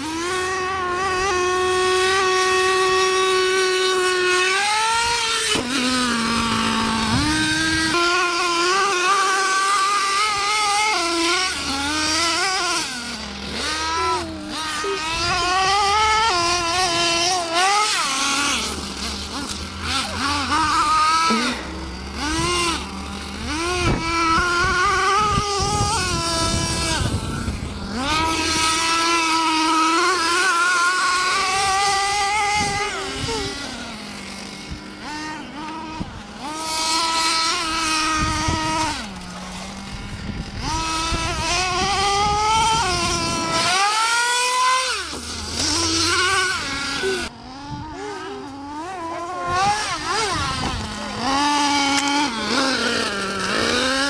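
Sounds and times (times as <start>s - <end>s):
small two-stroke engines revving: 0.0s - 54.0s.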